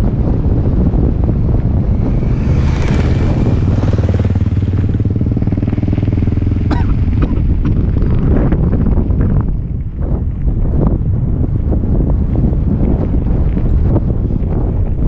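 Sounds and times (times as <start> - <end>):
motorcycle engine running: 0.0 - 15.0
wind buffeting microphone: 0.0 - 15.0
tyres rumbling on gravel: 0.5 - 15.0.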